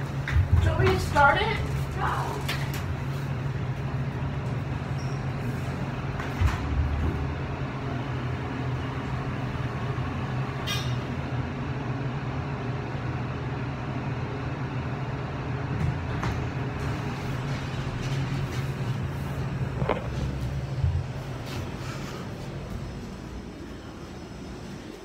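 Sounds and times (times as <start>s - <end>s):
elevator mechanical hum: 0.0s - 25.0s.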